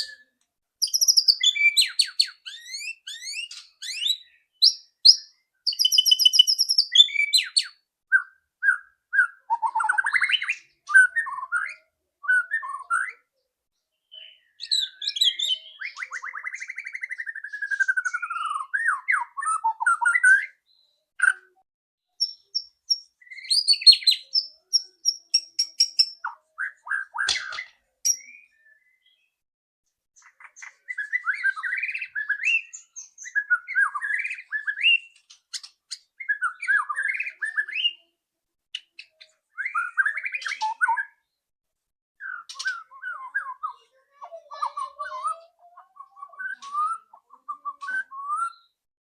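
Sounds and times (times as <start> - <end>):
songbird singing: 0.0 - 29.4, 30.2 - 38.2, 38.8 - 41.4, 42.2 - 48.8.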